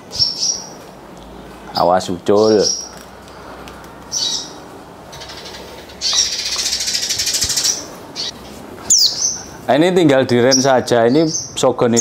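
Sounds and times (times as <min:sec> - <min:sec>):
songbird chirping and trilling: 0:00.0 - 0:00.9, 0:01.7 - 0:03.5, 0:04.1 - 0:12.0.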